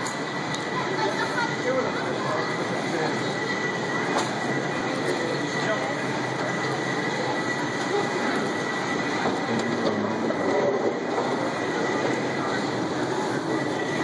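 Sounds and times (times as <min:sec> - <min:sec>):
moving walkway rolling: 0:00.0 - 0:14.0.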